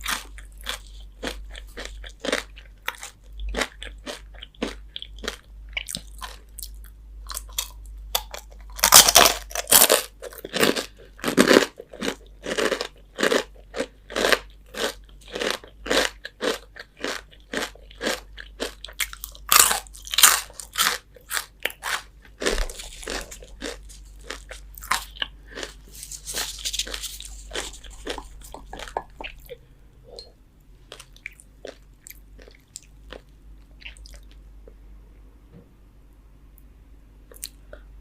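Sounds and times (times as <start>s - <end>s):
crunchy chewing: 0.0s - 34.4s.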